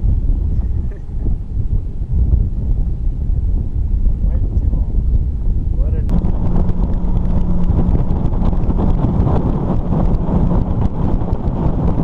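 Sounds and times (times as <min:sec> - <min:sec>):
low boat engine hum: 0:00.0 - 0:12.0
wind buffeting microphone: 0:00.0 - 0:12.0.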